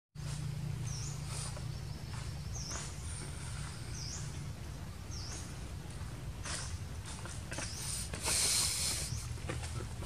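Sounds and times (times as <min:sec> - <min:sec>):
small bird chirping: 0:00.2 - 0:10.0.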